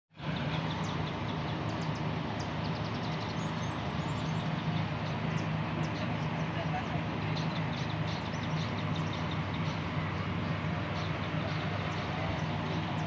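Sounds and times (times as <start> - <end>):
helicopter running: 0.3 - 13.0.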